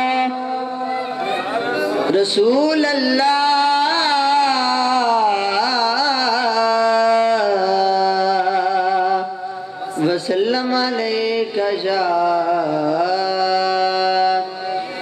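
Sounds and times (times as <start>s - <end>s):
man chanting into microphone: 2.0s - 15.0s.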